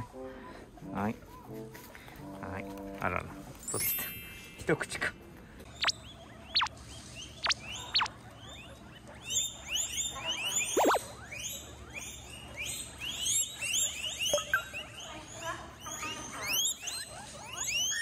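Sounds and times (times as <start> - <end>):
guinea pigs wheeking: 0.0 - 4.2, 5.6 - 18.0.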